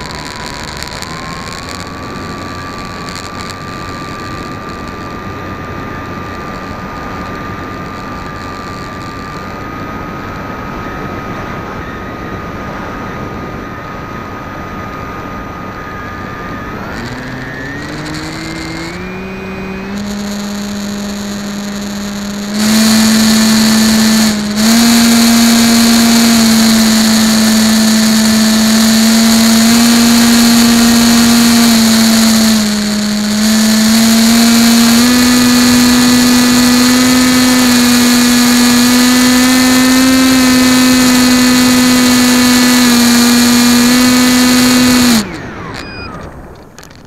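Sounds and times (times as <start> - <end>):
drone motor buzzing: 0.0 - 10.8, 14.9 - 47.0.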